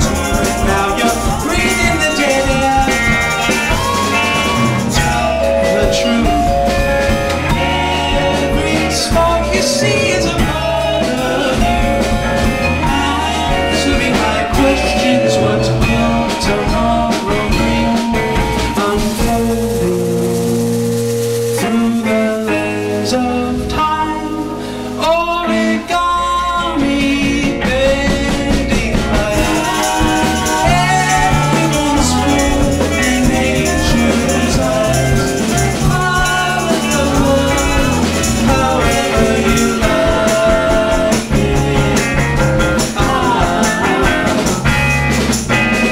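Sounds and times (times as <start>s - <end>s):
live band playing: 0.0s - 45.9s.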